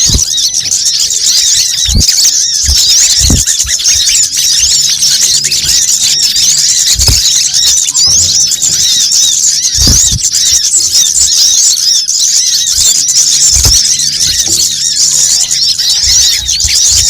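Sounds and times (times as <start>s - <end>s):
low thumps: 0.0s - 0.7s, 1.7s - 11.0s, 12.7s - 17.0s
songbirds chirping and twittering: 0.0s - 17.0s.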